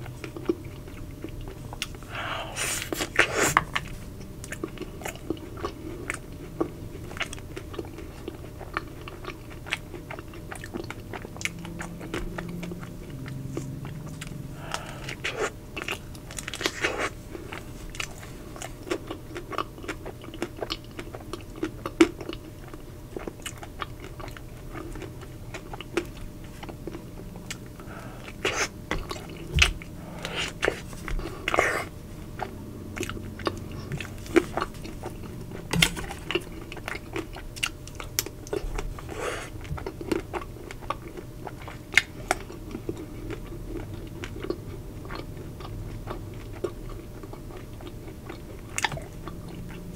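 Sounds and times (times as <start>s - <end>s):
chewing crunchy chocolate shell: 0.0s - 49.9s.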